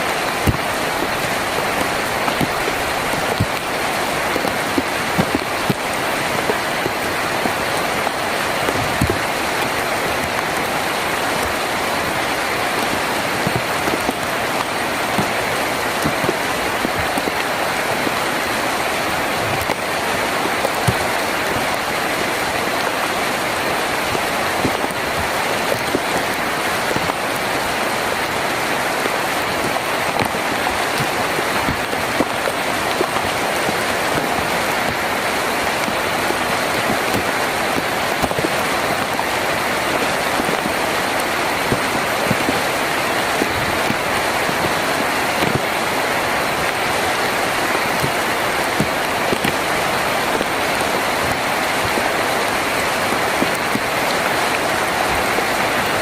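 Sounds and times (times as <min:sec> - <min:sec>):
rain on a tin roof: 0:00.0 - 0:56.0
raindrops ticking: 0:00.0 - 0:56.0.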